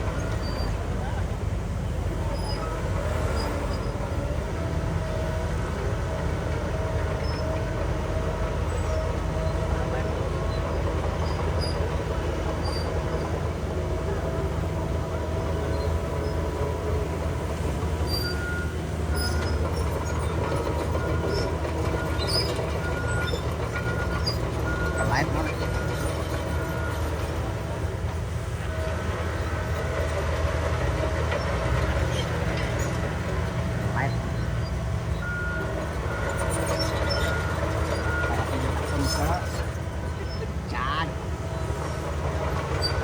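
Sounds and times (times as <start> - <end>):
diesel engines rumbling: 0.0 - 43.0.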